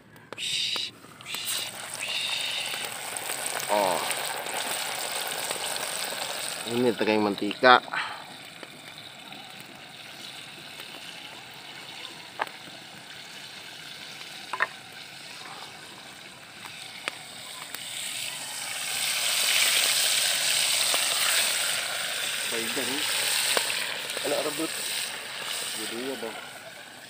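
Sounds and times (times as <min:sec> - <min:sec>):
meat sizzling in hot oil: 0:00.4 - 0:27.0.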